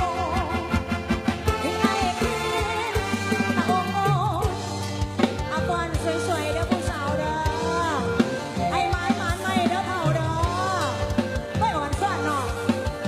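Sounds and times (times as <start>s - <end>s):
bass line: 0.0s - 13.0s
regular drum beat: 0.0s - 13.0s.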